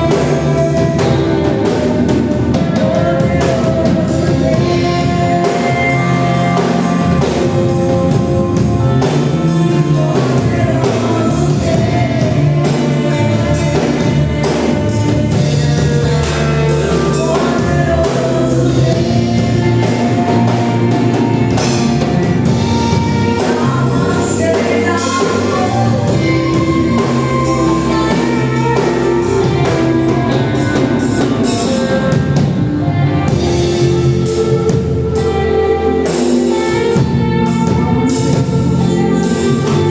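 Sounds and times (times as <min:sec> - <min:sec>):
singing: 0:00.0 - 0:36.3
church band playing: 0:00.0 - 0:39.9.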